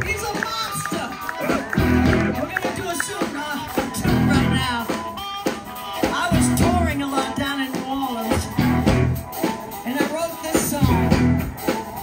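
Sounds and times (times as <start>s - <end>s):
blues band playing: 0.0s - 12.0s.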